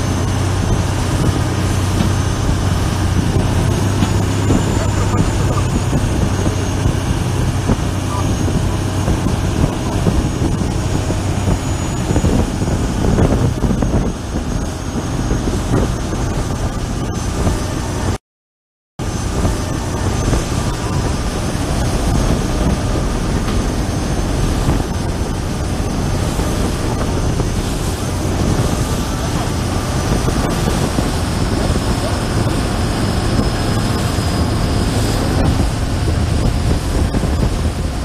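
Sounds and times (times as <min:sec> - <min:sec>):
boat engine running: 0:00.0 - 0:18.2, 0:19.0 - 0:38.0
wind noise on microphone: 0:00.0 - 0:18.2, 0:19.0 - 0:38.0.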